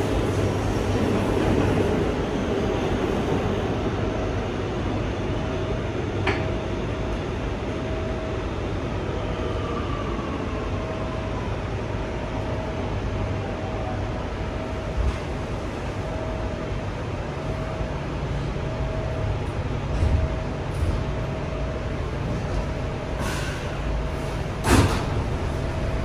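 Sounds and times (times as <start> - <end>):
subway wheel and track noise: 0.0 - 26.0.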